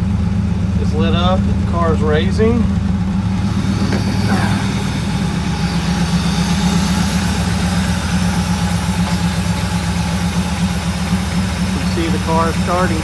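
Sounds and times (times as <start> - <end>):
loud car engine idling: 0.0 - 13.0.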